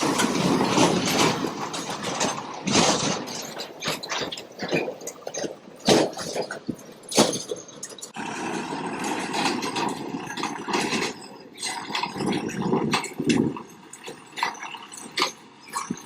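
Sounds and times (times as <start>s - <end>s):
steady vehicle noise: 0.0s - 16.0s
truck clanking and rattling: 0.0s - 16.0s.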